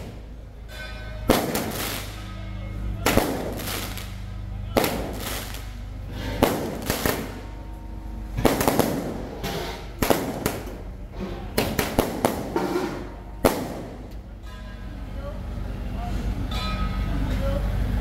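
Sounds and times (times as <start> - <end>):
firecrackers banging: 0.0 - 14.9.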